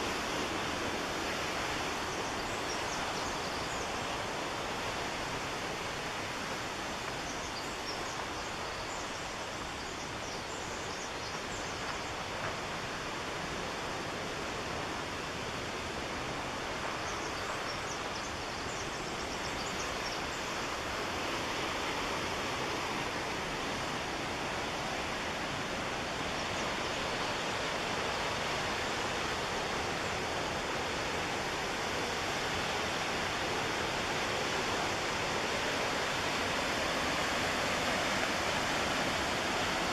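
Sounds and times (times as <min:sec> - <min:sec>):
whitewater rushing: 0:00.0 - 0:39.9.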